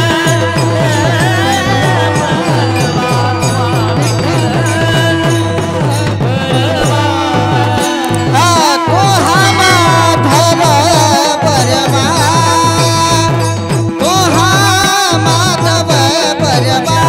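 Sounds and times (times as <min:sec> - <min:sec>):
drum quick rhythm: 0:00.0 - 0:17.0.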